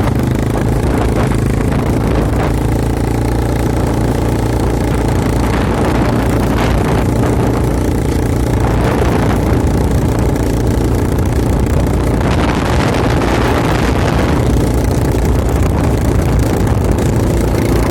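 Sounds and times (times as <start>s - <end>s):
quad bike engine running: 0.0s - 17.9s
rushing noise: 0.0s - 17.9s.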